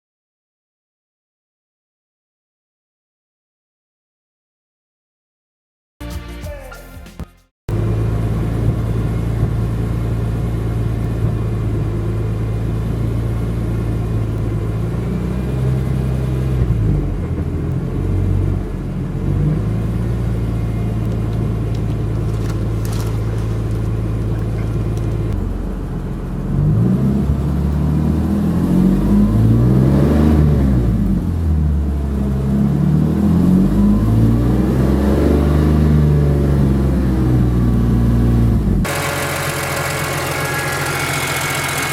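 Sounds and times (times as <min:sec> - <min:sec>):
car engine revving: 0:07.7 - 0:41.9.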